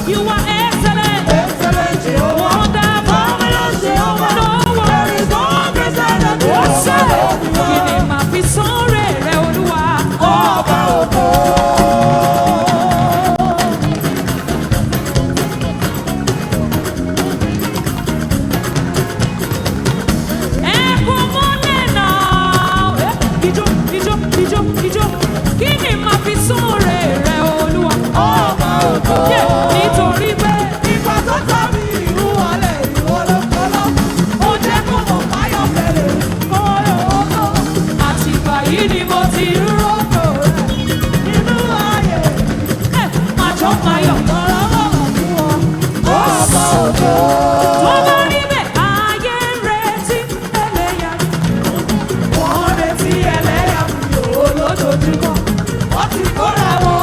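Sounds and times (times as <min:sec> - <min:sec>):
singing: 0:00.0 - 0:14.5, 0:20.5 - 0:57.0
gospel band music: 0:00.0 - 0:57.0.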